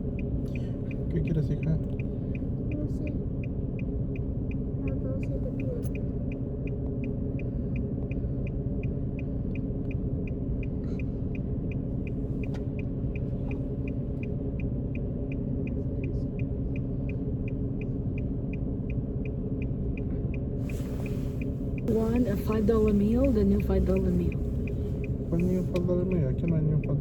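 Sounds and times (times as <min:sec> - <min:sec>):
car engine rumble: 0:00.0 - 0:27.0
turn signal ticking: 0:00.0 - 0:27.0.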